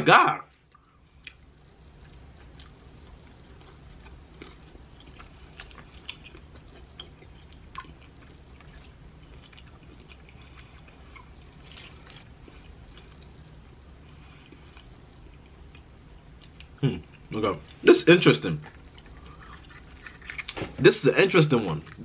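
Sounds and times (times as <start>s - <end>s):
steady low hum: 0.0s - 22.0s
faint chewing with wet clicks: 0.6s - 13.5s, 14.2s - 17.9s, 18.5s - 20.6s.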